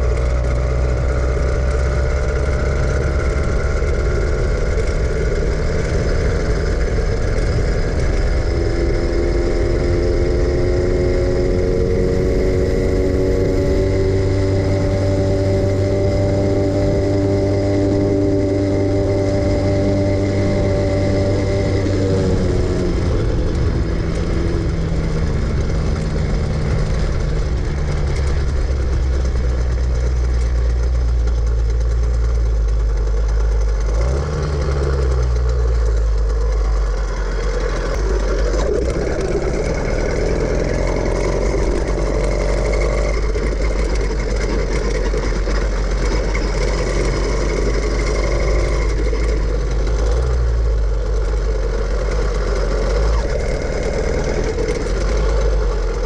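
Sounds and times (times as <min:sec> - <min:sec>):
small gas engine running: 0:00.0 - 0:56.0.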